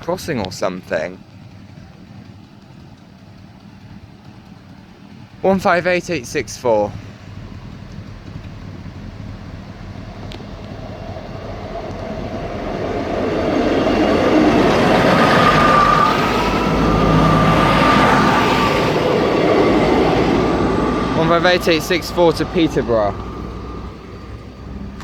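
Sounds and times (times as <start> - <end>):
diesel train rumbling past: 0.0 - 25.0
thin steady whine: 0.0 - 25.0
wheels on rails: 0.0 - 25.0.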